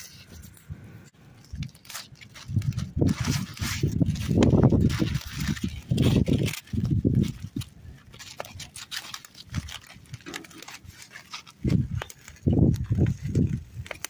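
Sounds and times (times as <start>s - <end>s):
aluminium foil crinkling: 1.2s - 14.0s.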